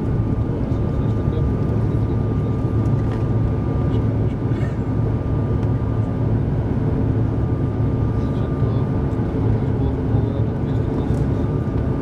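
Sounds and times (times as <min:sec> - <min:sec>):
jet engine drone and airflow: 0:00.0 - 0:12.0.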